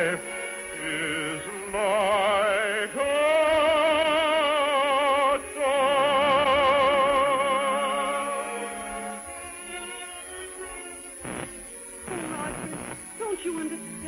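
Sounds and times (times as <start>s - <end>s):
operatic singing: 0.0s - 14.0s
orchestra: 0.0s - 14.0s.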